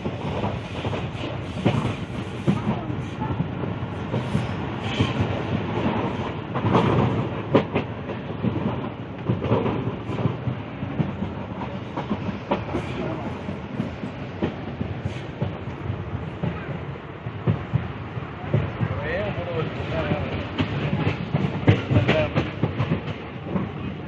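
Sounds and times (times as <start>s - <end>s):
train carriage rumble: 0.0s - 24.0s
wheels clicking over rail joints: 4.0s - 24.0s.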